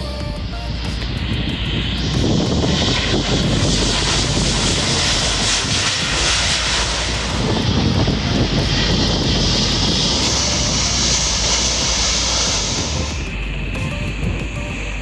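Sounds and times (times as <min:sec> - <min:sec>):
jet engines on runway: 0:00.0 - 0:15.0.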